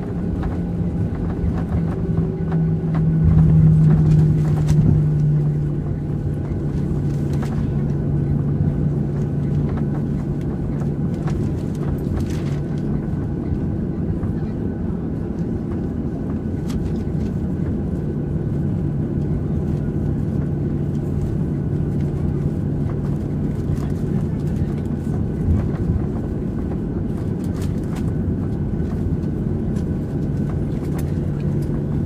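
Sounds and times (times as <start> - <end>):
jet engines idling hum: 0.0 - 32.0.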